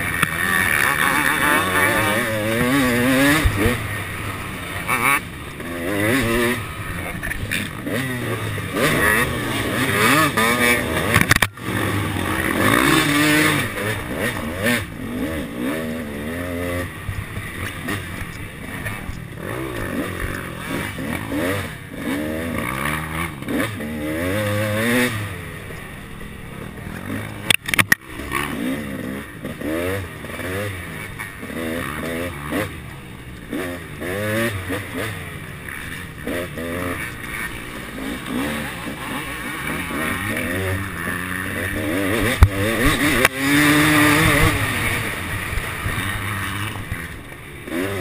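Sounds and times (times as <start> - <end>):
motocross engine revving: 0.0 - 48.0.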